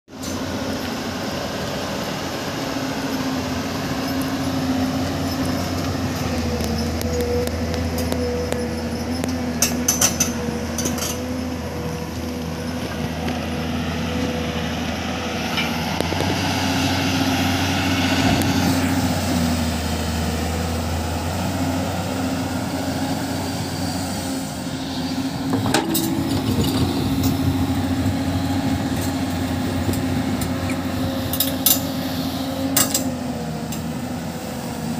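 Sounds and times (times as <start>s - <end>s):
heavy machinery engines running: 0.1s - 34.9s.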